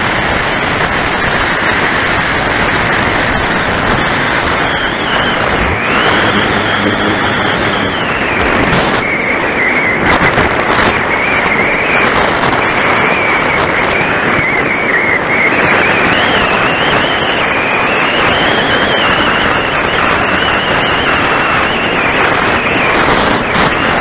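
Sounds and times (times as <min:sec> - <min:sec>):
wind rushing over camera: 0:00.0 - 0:24.0
wavering high whistle: 0:01.2 - 0:24.0.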